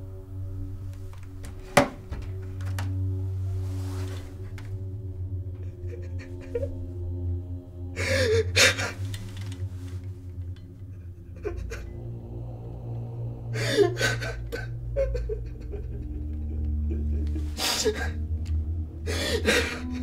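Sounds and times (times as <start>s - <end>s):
low steady drone: 0.0s - 20.0s.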